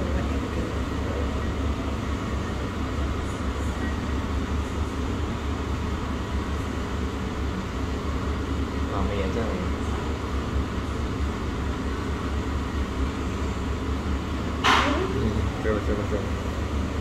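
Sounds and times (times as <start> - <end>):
low indoor rumble: 0.0 - 17.0.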